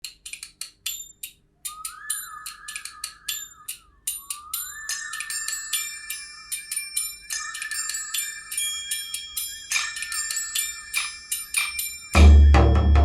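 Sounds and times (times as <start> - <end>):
instrumental music over speakers: 1.7 - 13.0.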